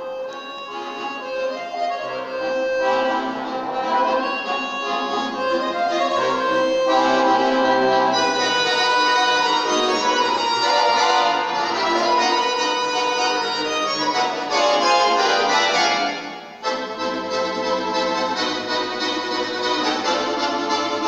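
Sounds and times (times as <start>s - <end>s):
accordion orchestra playing chords: 0.0s - 21.0s.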